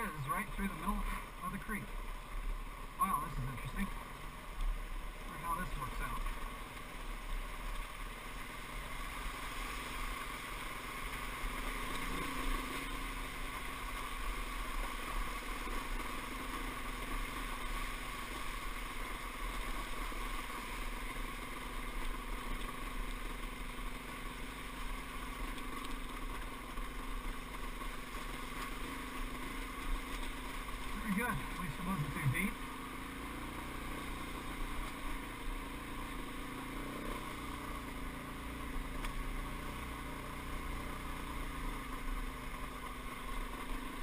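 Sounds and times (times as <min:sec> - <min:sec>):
dirt bike engine at low revs: 0:00.0 - 0:44.0.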